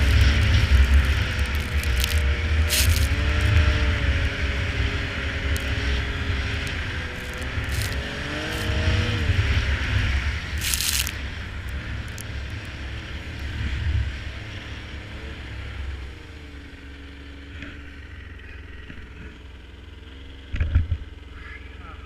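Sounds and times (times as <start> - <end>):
snowmobile engine running: 0.0 - 22.0.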